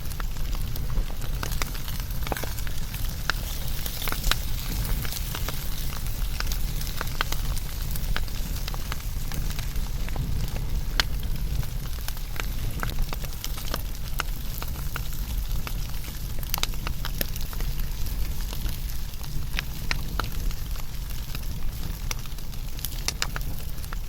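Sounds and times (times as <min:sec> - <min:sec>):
fire crackling and popping: 0:00.0 - 0:24.0
fire rumbling: 0:00.0 - 0:24.0.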